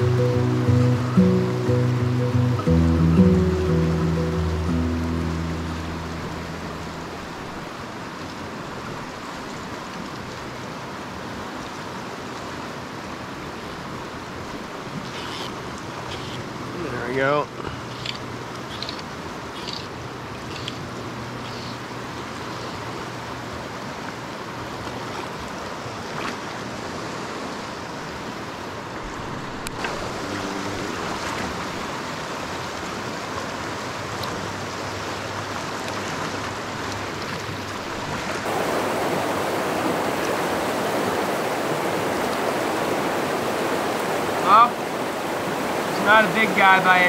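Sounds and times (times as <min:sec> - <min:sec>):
river water rushing over rocks: 0:00.0 - 0:47.0.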